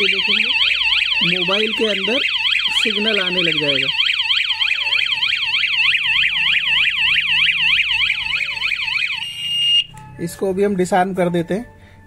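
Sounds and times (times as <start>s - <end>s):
steady alarm tone: 0.0s - 9.9s
electronic siren wailing: 0.0s - 10.0s.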